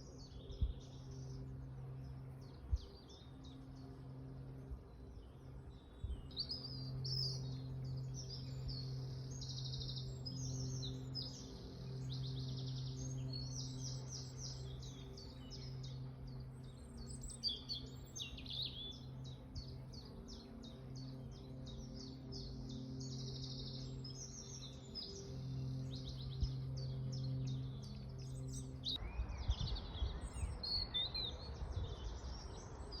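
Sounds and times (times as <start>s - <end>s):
steady low hum: 0.0s - 29.0s
songbirds singing: 0.0s - 33.0s.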